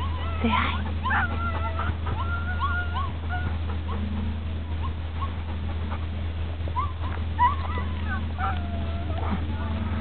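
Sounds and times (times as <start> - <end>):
dog whimpering: 0.0 - 6.0, 6.7 - 10.0
steady low hum: 0.0 - 10.0.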